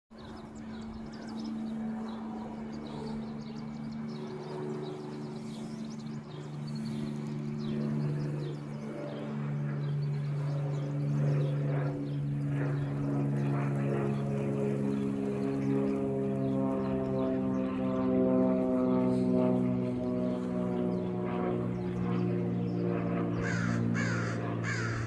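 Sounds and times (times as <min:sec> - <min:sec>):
propeller aircraft droning overhead: 0:00.1 - 0:25.0
birds chirping: 0:00.2 - 0:25.0.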